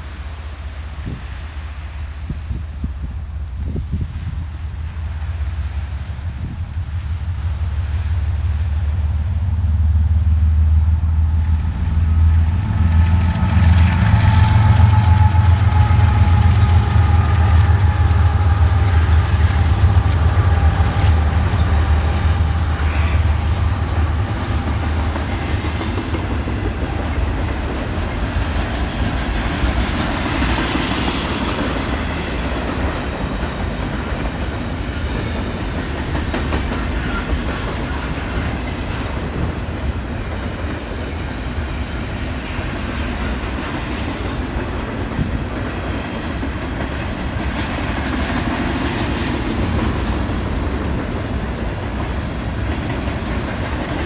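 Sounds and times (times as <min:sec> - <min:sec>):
diesel train engine rumble: 0:00.0 - 0:54.0.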